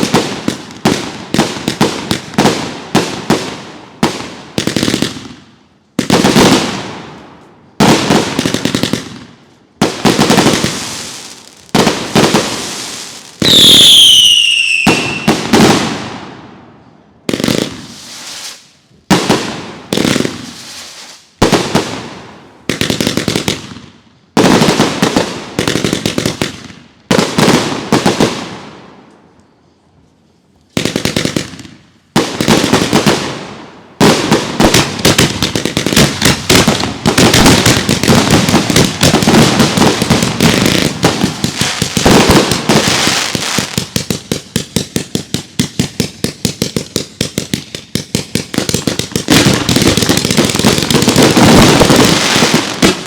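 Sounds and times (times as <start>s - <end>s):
fireworks bangs: 0.0s - 5.4s, 6.0s - 16.6s, 17.2s - 28.9s, 30.8s - 53.0s.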